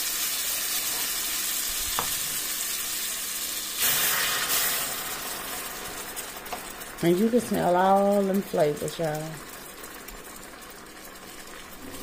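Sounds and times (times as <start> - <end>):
broth bubbling at a boil: 0.0 - 12.0.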